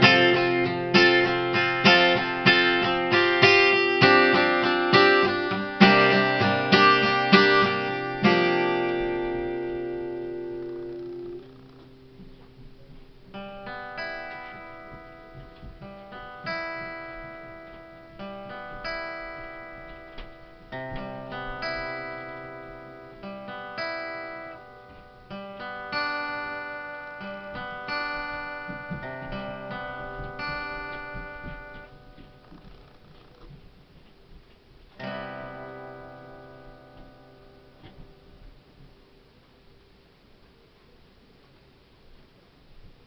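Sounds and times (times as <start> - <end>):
acoustic guitar picked chords: 0.0 - 40.2.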